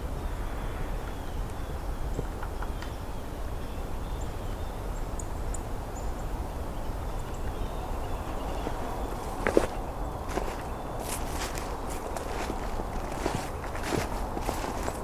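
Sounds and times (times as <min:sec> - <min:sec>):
distant sparrow calls: 0:00.1 - 0:15.0.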